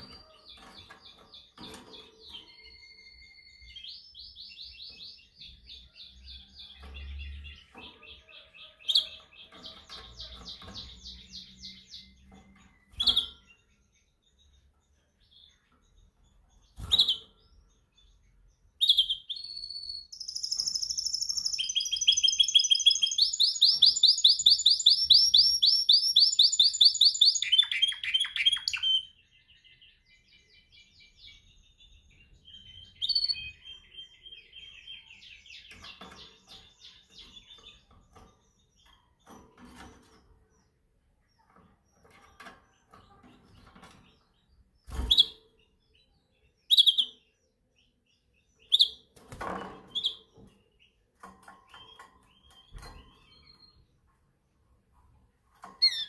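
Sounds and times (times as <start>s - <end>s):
canary singing trills: 0.0s - 54.0s, 55.6s - 56.0s.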